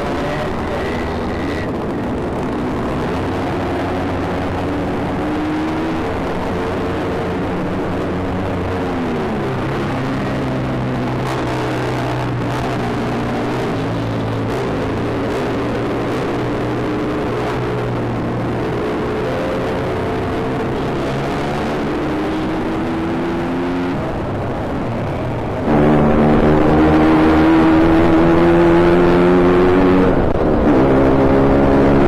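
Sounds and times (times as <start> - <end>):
motorcycle engine revving: 0.0 - 32.0
other motorcycle engines: 0.0 - 32.0.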